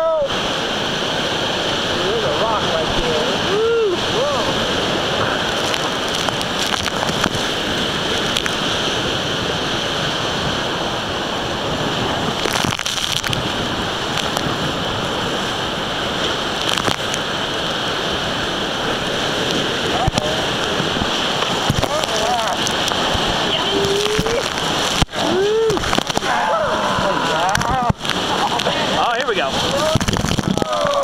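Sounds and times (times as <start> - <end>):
waves splashing over bow: 0.0 - 31.0
whitewater rapid rushing: 0.0 - 31.0.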